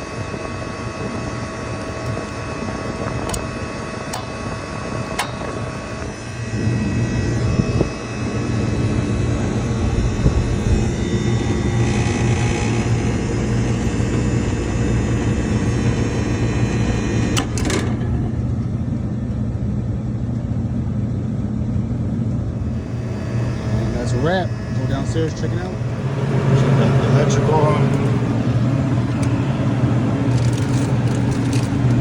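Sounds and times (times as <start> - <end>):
compressor hum: 0.0 - 32.0
condenser fan noise: 0.0 - 32.0.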